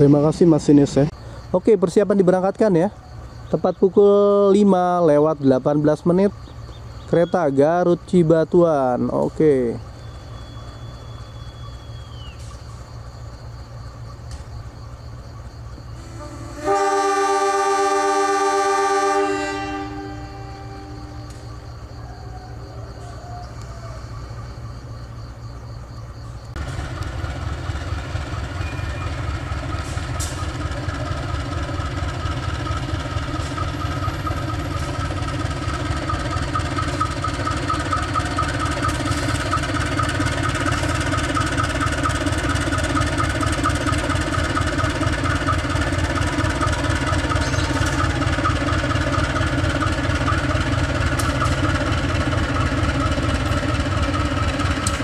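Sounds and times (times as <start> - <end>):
locomotive engine rumbling: 0.0 - 55.0.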